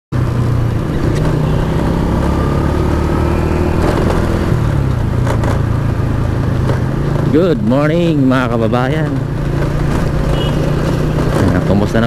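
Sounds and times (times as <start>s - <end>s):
motorcycle engine running: 0.2s - 12.0s.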